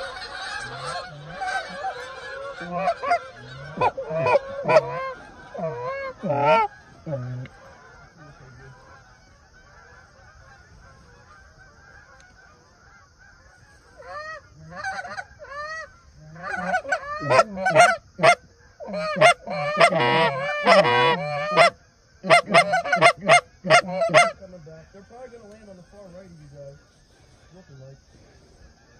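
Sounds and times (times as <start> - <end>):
goose honking: 0.0 - 28.9.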